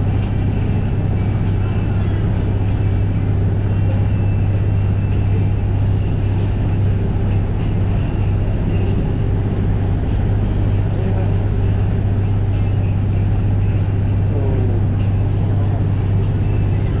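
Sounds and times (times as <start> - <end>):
boat engines droning: 0.0 - 17.0
water wash: 0.0 - 17.0
wind: 0.0 - 17.0.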